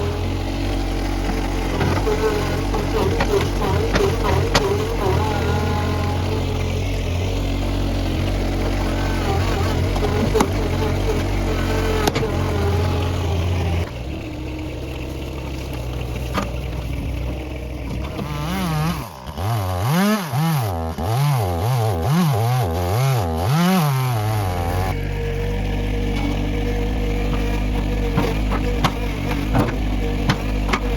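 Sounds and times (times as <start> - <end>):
chainsaw engine revving: 0.0 - 30.9.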